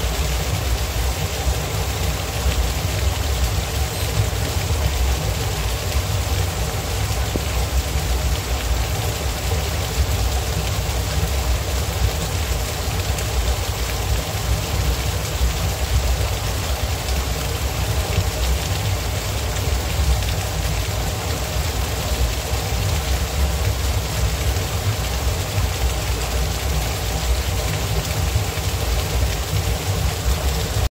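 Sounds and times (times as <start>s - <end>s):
deep water rumble: 0.0s - 30.9s
waterfall splashing: 0.0s - 30.9s.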